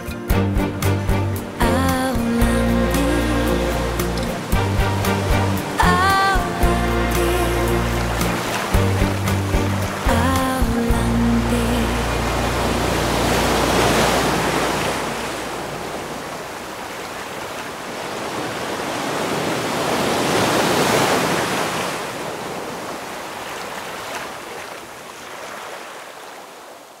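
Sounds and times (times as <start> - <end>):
small waves breaking on beach: 2.1 - 27.0.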